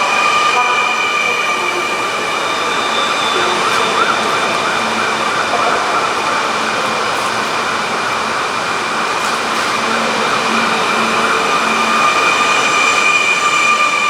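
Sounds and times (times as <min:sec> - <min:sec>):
train running gear whine: 0:00.0 - 0:14.0
wavering siren-like tone: 0:00.0 - 0:14.0.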